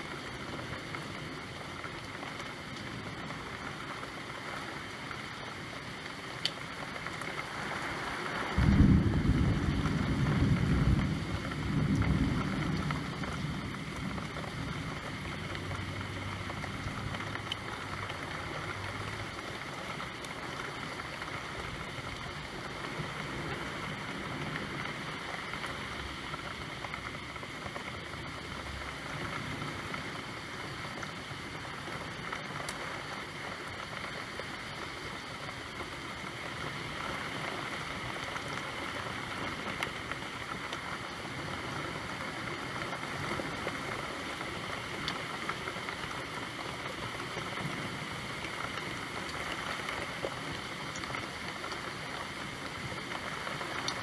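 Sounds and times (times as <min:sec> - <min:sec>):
steady falling rain: 0:00.0 - 0:54.0.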